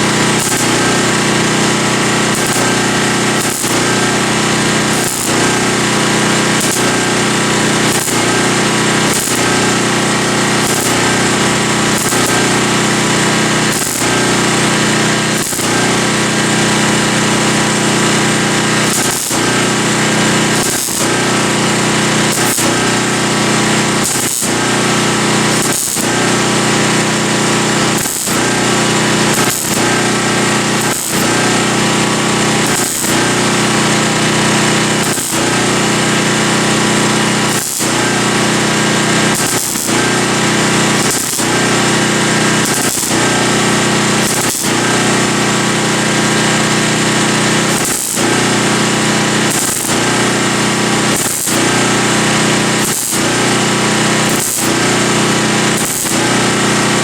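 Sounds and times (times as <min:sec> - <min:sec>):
power tool on sheet metal: 0:00.0 - 0:57.0.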